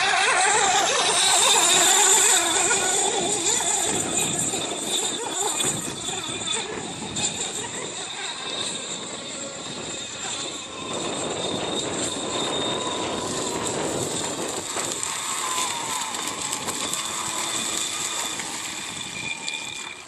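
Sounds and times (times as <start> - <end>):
high-pitched motor whine: 0.0 - 20.0.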